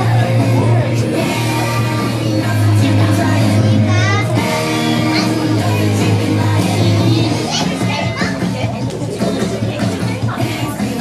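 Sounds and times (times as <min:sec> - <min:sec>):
person singing: 0:00.0 - 0:08.0, 0:09.2 - 0:11.0
music: 0:00.0 - 0:11.0.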